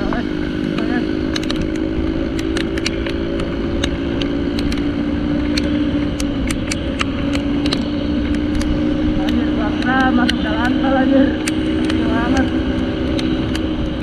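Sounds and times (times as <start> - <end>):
motorcycle engine: 0.0 - 14.0
wind and road noise: 0.0 - 14.0.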